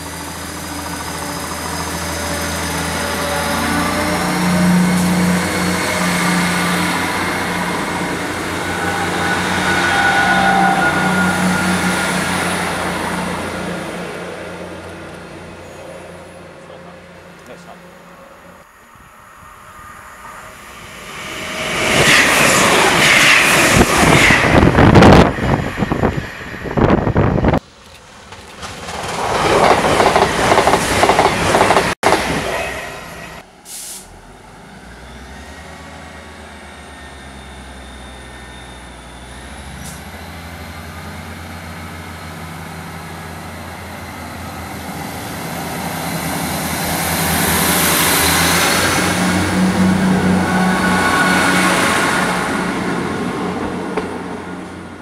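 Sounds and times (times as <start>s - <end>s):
diesel train humming: 0.0s - 55.0s
train rushing past at speed: 0.0s - 55.0s.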